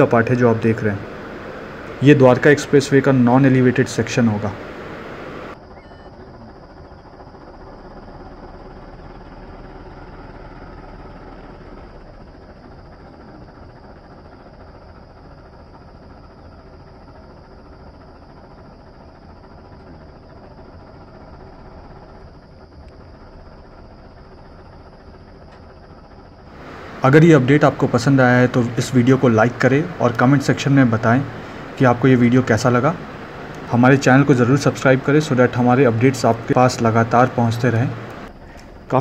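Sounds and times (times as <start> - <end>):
outdoor background noise: 0.0 - 39.0
vehicle engine: 0.0 - 39.0.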